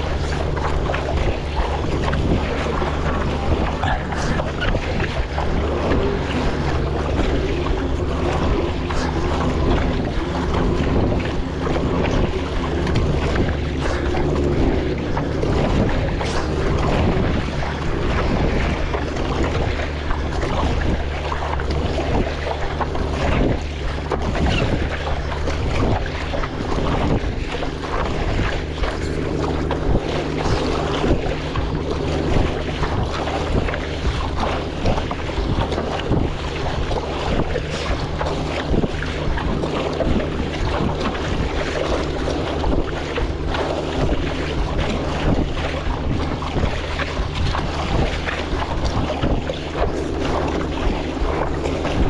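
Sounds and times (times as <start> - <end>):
water splashing and sloshing: 0.0 - 52.0
wind rumbling on microphone: 0.0 - 52.0.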